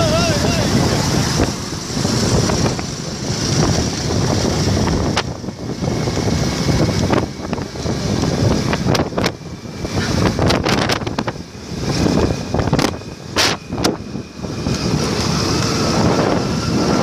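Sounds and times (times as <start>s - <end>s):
small motorbike engines running: 0.0s - 17.0s
wind buffeting microphone: 0.0s - 17.0s.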